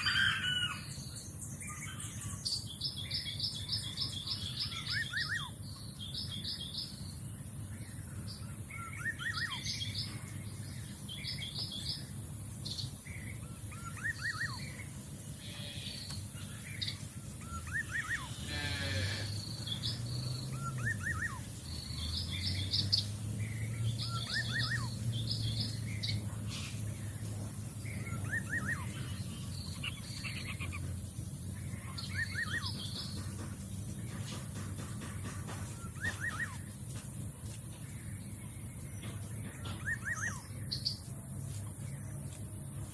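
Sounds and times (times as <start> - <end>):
wild birds chirping: 0.0 - 42.9.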